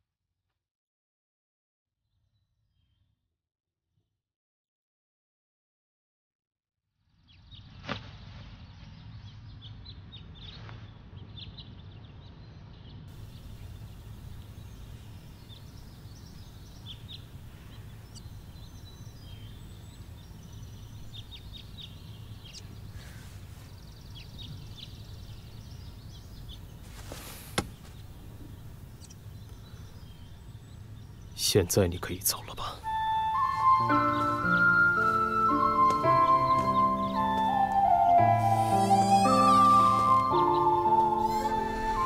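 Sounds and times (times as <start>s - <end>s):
small birds chirping: 7.2s - 42.0s.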